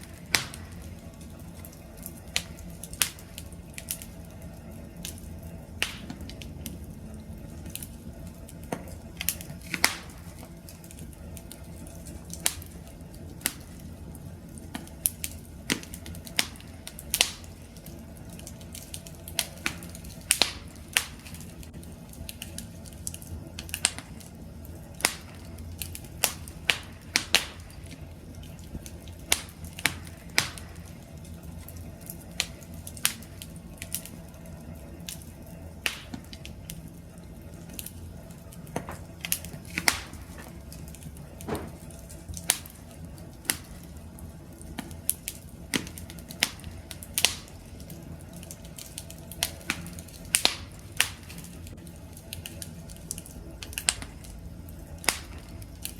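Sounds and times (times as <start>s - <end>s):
low rumble of flame: 0.0s - 55.9s
wood fire crackling and popping: 0.0s - 55.9s.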